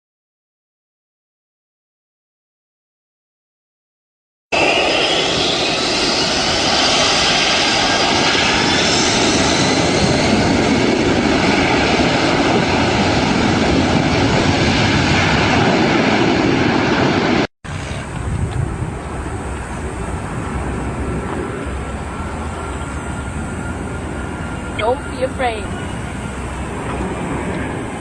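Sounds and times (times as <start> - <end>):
aircraft engines whining: 4.6 - 28.0.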